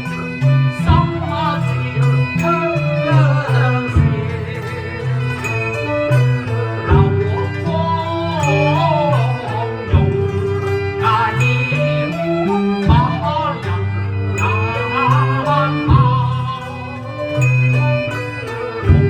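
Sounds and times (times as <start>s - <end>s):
percussion strike: 0.0s - 16.7s
strings playing a melody: 0.0s - 19.0s.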